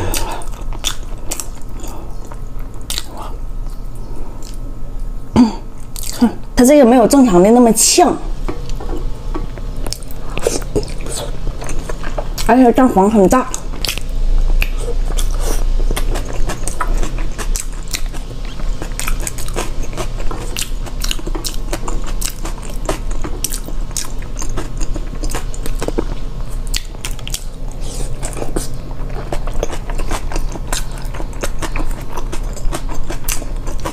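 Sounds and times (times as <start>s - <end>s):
close wet chewing: 0.0s - 4.6s, 8.7s - 12.5s, 13.5s - 33.9s.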